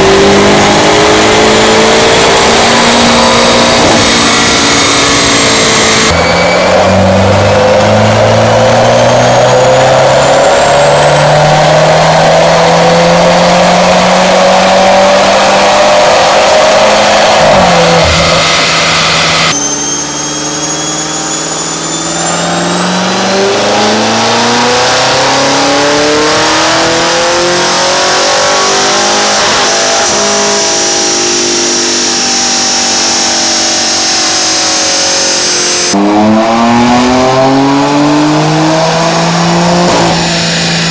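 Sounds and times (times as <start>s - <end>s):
car engine revving under load: 0.0s - 19.5s, 21.0s - 40.9s
high whine of dyno rollers: 0.0s - 40.9s.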